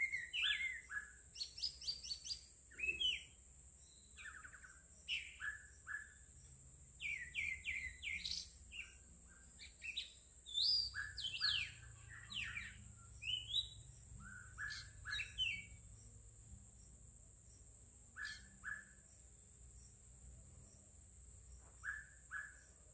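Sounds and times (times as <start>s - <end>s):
songbirds chirping and singing: 0.0s - 20.0s, 21.6s - 22.9s.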